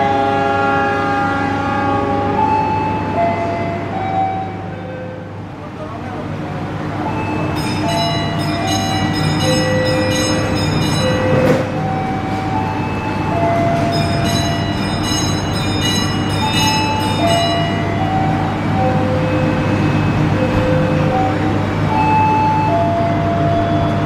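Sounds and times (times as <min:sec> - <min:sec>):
train engine drone: 0:00.0 - 0:24.0.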